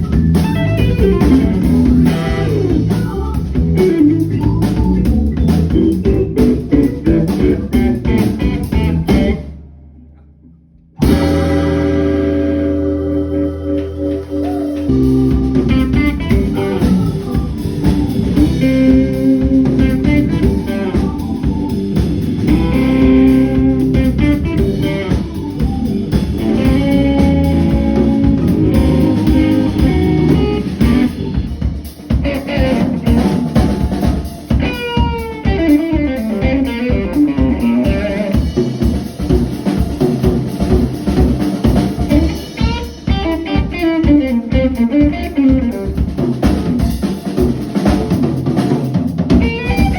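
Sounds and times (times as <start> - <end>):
band playing guitar and drums: 0.0 - 10.0, 10.9 - 49.9.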